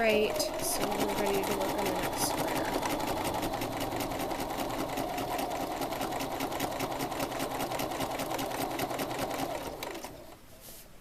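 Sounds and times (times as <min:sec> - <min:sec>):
sewing machine running fast: 0:00.0 - 0:10.4.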